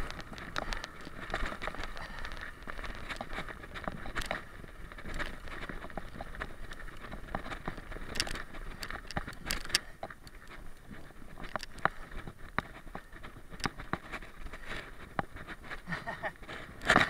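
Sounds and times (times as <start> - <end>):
bike rattling over bumps: 0.0 - 17.0
bike tyres rumbling over dirt: 0.0 - 17.0.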